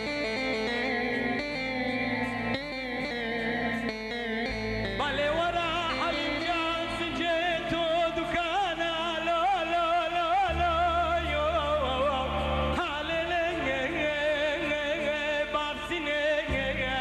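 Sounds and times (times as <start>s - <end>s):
ornamented melody with vibrato: 0.0s - 17.0s
sustained low bass notes: 0.0s - 17.0s.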